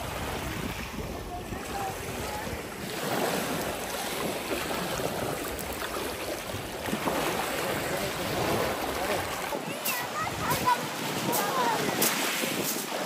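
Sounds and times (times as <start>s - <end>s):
waves washing onto beach: 0.0s - 13.0s
wind on microphone: 0.0s - 13.0s.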